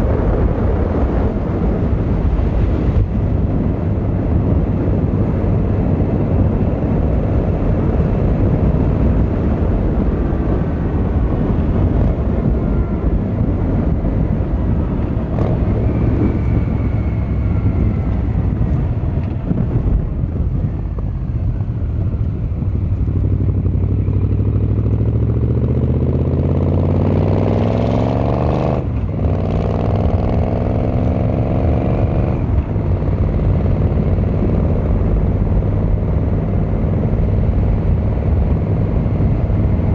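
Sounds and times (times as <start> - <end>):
motorcycle engine and exhaust: 0.0 - 39.9
wind rush: 0.0 - 39.9.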